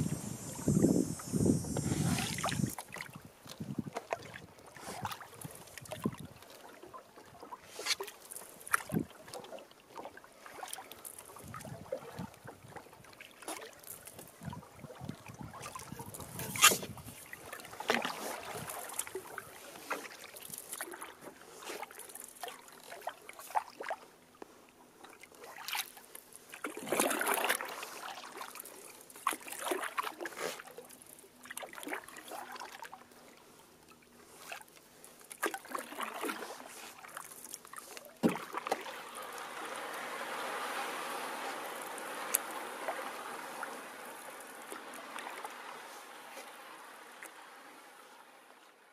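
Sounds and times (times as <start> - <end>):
paddle splashing in water: 0.0 - 48.9.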